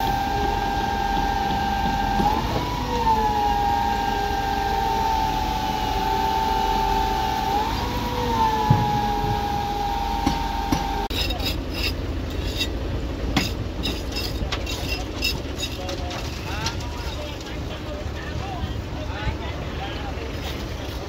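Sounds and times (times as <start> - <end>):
concrete pump whining: 0.0 - 21.0.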